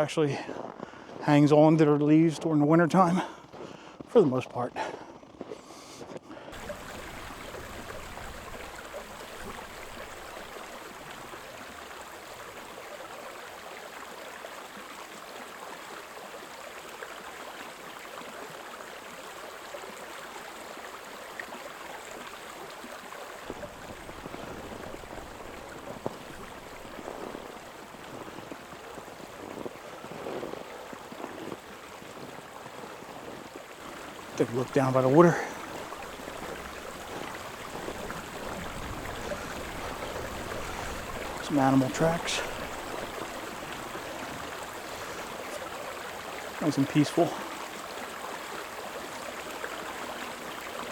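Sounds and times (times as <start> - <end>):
creek water flowing: 0.0 - 50.9.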